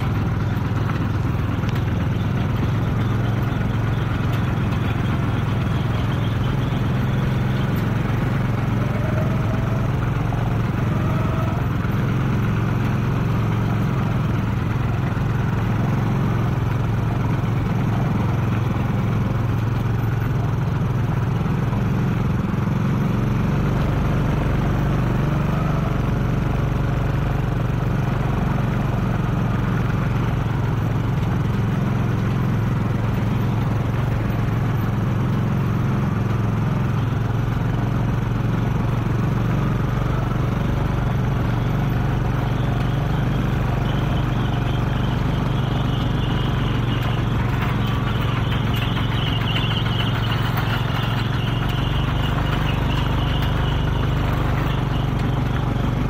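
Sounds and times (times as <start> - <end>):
motorcycle engine: 0.0 - 56.0
tractor diesel engine: 0.0 - 56.0.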